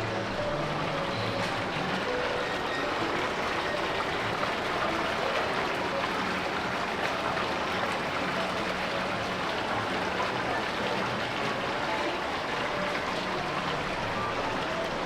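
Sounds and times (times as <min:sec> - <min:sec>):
distant voices: 0:00.0 - 0:15.0.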